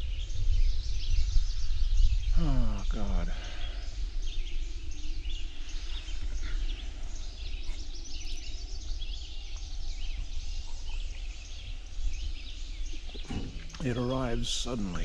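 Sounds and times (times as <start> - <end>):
songbirds chirping and singing: 0.0 - 15.0
steady low rumble: 0.0 - 15.0.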